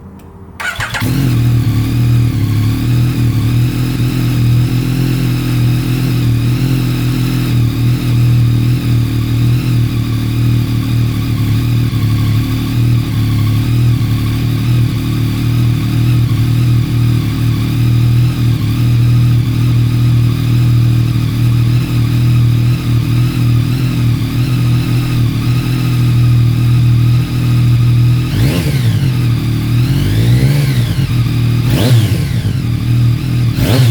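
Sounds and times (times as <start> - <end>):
motorcycle engine idling and revving: 0.1 - 33.9.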